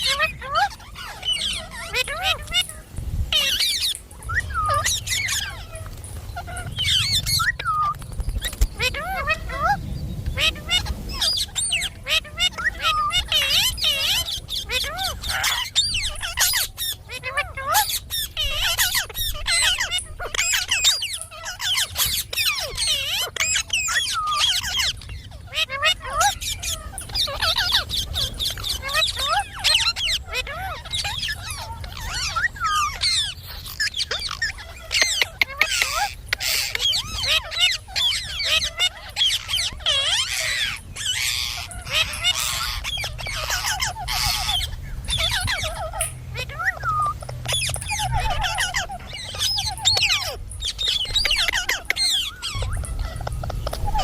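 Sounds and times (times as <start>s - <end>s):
parakeet chattering and squawking: 0.0s - 54.0s.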